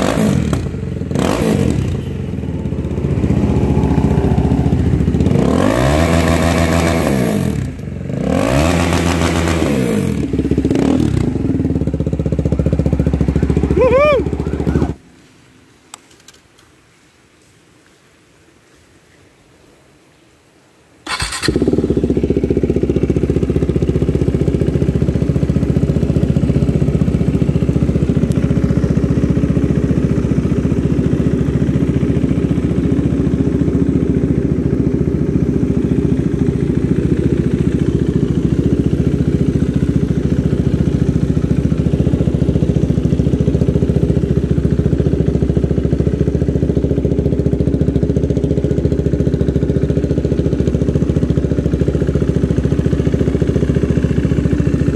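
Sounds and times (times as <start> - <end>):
motorcycle engine starting and idling: 0.0 - 15.0, 21.0 - 54.9.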